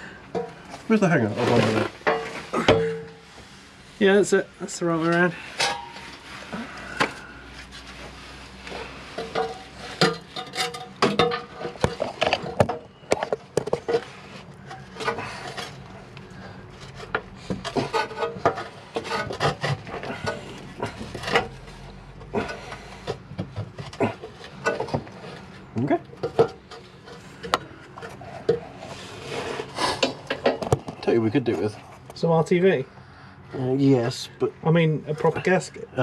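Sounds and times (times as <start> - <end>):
knocks clanks and scraping: 0.0 - 3.6, 4.7 - 32.3.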